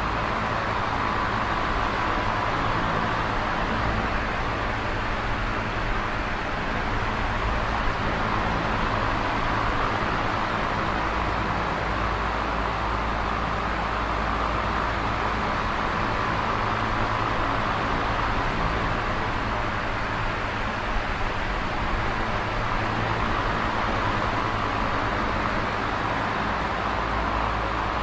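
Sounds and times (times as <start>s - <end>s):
electric fan running: 0.0s - 28.0s.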